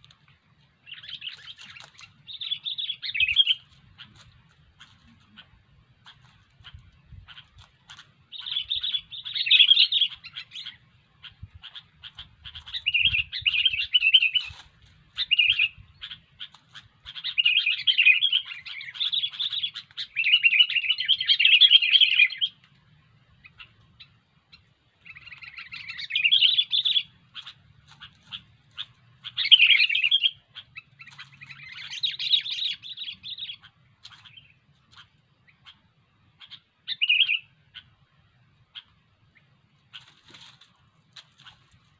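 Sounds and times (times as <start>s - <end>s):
birds chattering calls: 0.0s - 41.9s.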